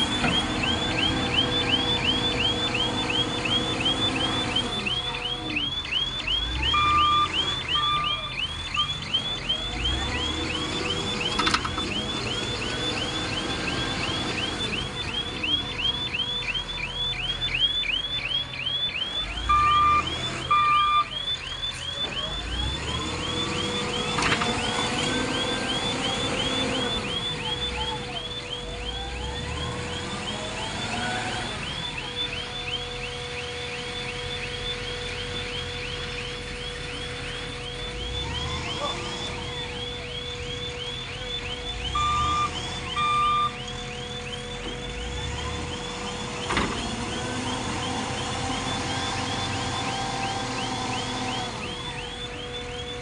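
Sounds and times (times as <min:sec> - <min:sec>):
diesel engine revving: 0:00.0 - 0:53.0
electronic warning alarm chirps: 0:00.0 - 0:53.0
horn double beeps: 0:00.0 - 0:53.0.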